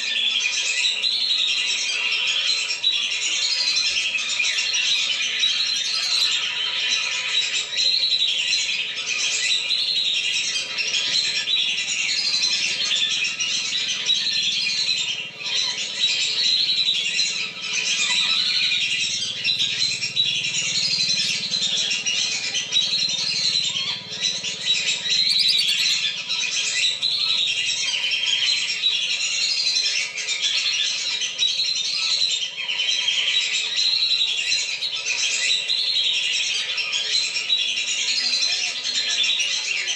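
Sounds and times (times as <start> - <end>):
whistling ducks calling: 0.0 - 39.9.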